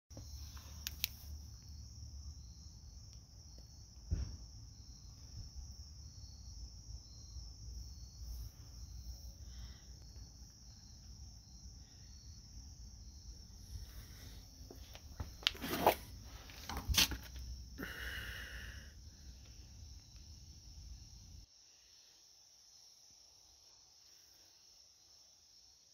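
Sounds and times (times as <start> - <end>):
insects trilling: 0.2 - 25.9.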